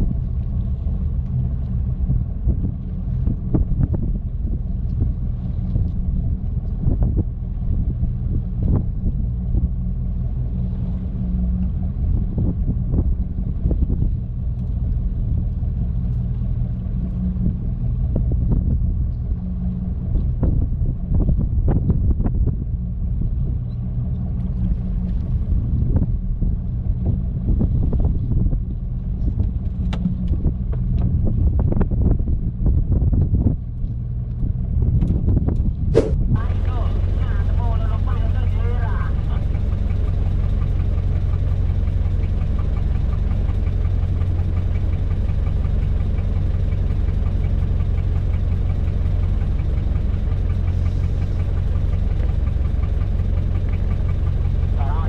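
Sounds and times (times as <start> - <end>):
boat engine humming: 0.0 - 55.0
wind buffeting microphone: 0.0 - 55.0.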